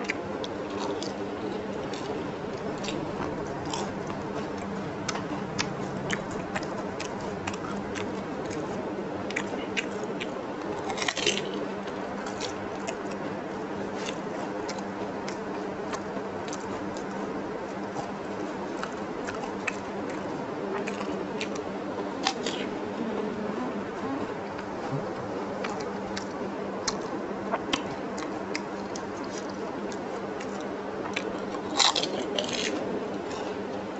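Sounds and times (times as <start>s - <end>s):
crunching and chewing food: 0.0s - 33.9s
low hum: 0.0s - 33.9s.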